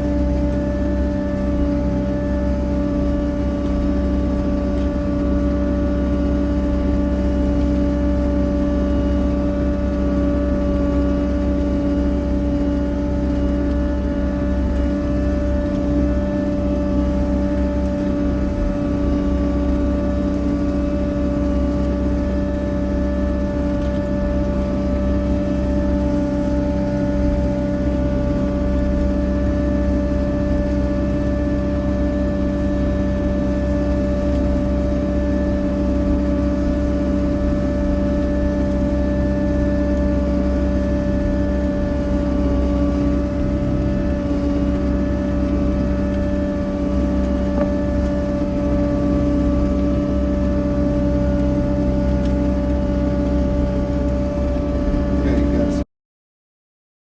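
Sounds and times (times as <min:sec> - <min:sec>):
engine running steadily: 0:00.0 - 0:55.8.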